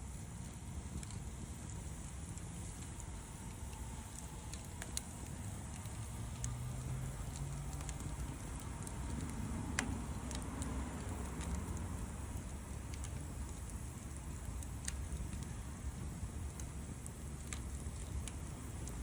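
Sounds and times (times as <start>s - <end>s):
burning wood crackling pops: 0.0s - 19.0s
low rumble of flame: 0.0s - 19.0s.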